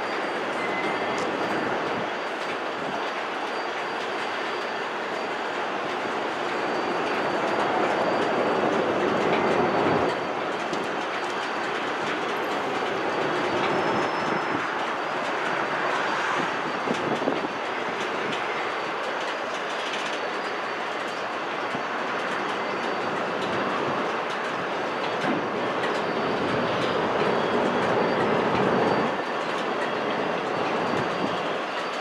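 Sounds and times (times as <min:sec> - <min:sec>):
faint thin wheel squeal: 0:00.0 - 0:24.4, 0:25.0 - 0:32.0
train wheels rumbling on rail: 0:00.0 - 0:32.0.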